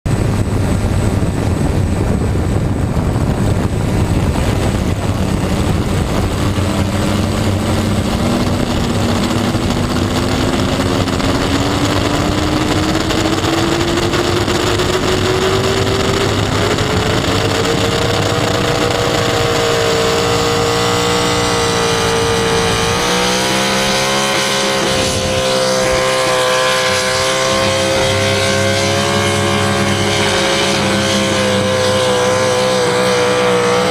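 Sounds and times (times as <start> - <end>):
loud motor rising in pitch: 0.2 - 33.9.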